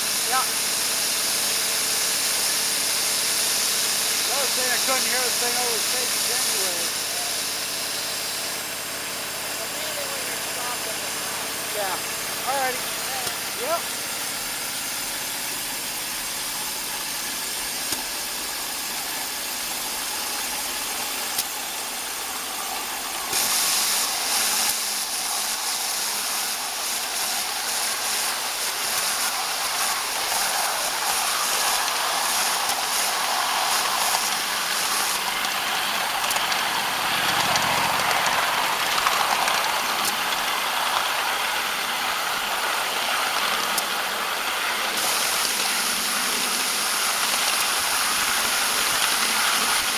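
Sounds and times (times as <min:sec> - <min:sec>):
locomotive running on track: 0:00.0 - 0:49.9
sharp steam hiss: 0:00.0 - 0:49.9
steam locomotive hissing: 0:00.0 - 0:49.9.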